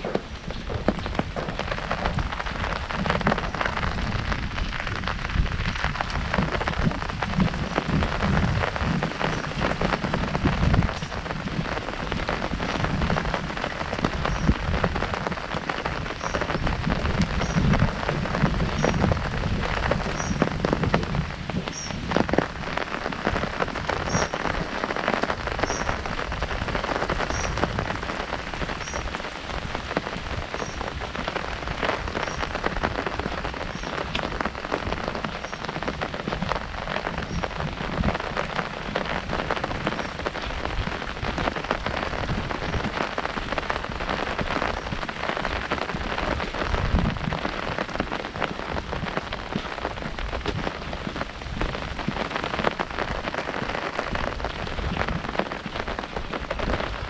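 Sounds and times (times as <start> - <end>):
heavy rain on umbrella: 0.0 - 57.0.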